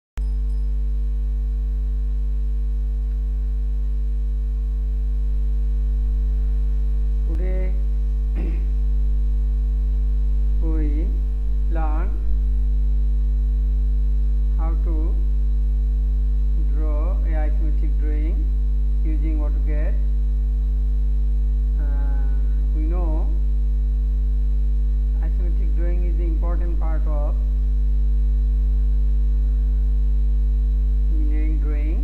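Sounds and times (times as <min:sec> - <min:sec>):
electrical mains hum: 0:00.2 - 0:32.0.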